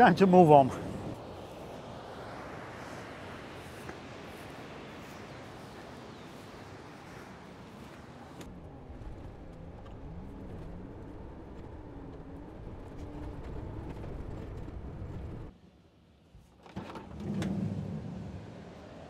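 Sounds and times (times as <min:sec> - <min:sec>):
van engine and tyres rumbling: 0:00.0 - 0:15.6.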